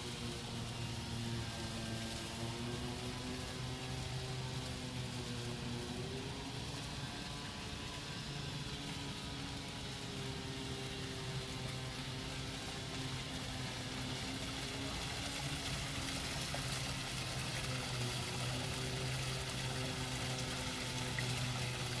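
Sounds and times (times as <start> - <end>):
water fountain splashing: 0.0 - 22.0.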